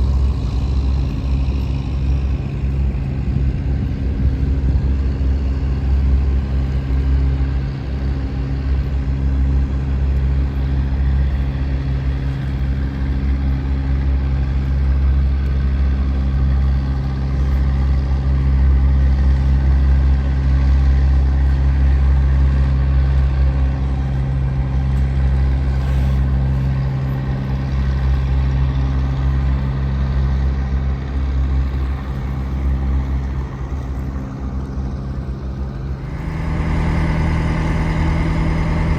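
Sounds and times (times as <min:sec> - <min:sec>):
boat diesel engine droning: 0:00.0 - 0:38.9.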